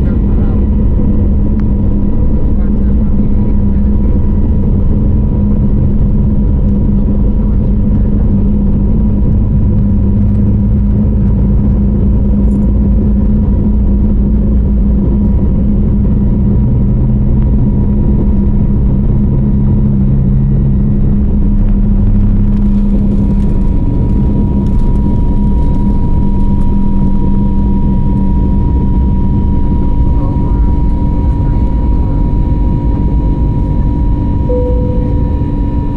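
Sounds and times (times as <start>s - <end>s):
jet engine cabin rumble: 0.0s - 35.9s.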